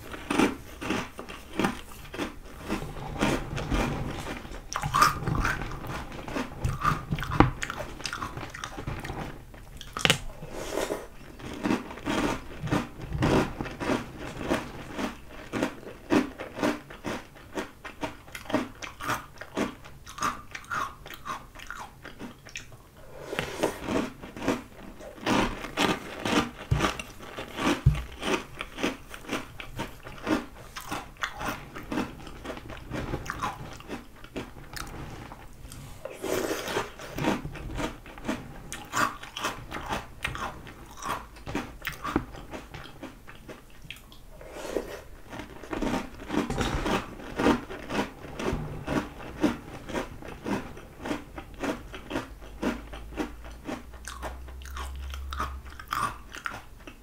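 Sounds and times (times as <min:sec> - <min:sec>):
crunching and chewing cereal: 0:00.0 - 0:57.0.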